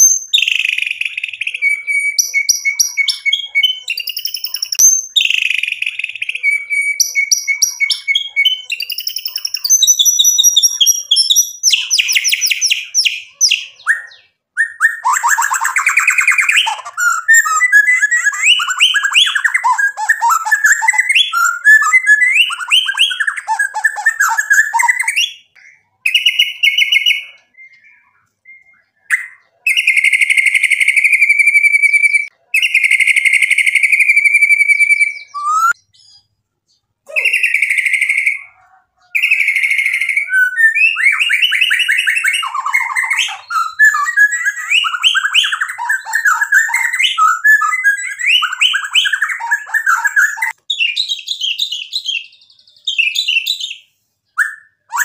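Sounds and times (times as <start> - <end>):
bird singing whistled phrases: 0.0 - 36.3, 37.1 - 55.0.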